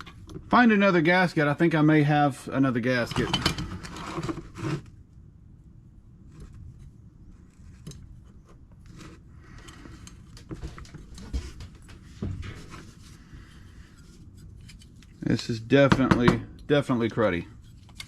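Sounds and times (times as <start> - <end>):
low steady background hum: 0.0 - 18.0.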